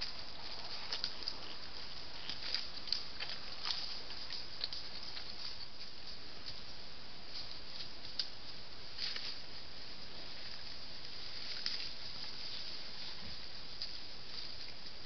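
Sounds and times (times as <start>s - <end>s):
microphone hiss: 0.0s - 15.0s
rustling in dry leaves: 0.0s - 15.0s.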